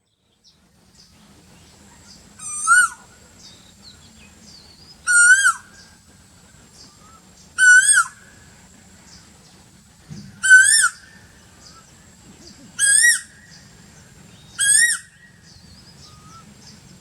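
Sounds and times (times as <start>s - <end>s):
bird calling: 1.7s - 6.1s, 6.7s - 9.3s, 10.1s - 17.0s.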